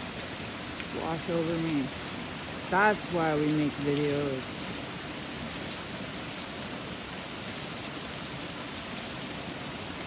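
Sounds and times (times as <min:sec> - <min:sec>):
water and ice rushing down: 0:00.0 - 0:10.0.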